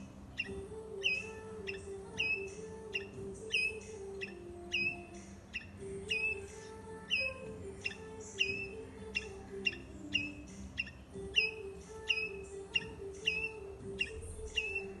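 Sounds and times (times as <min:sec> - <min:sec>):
squirrel chirping: 0:00.0 - 0:15.0.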